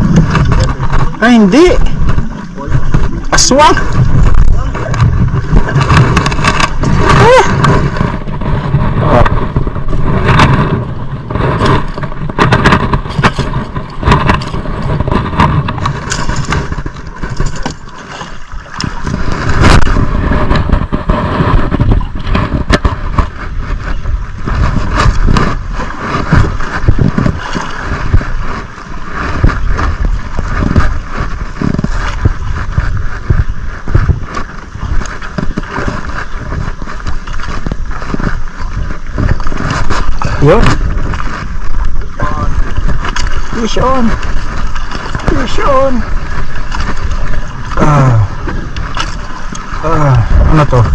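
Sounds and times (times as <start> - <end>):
water slapping against boat: 0.0 - 50.9
wind buffeting microphone: 0.0 - 50.9.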